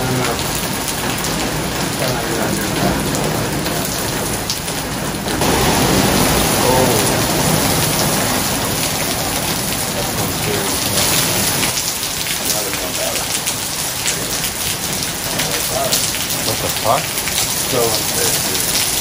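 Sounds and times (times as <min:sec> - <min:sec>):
heavy rain splashing on ground: 0:00.0 - 0:19.0.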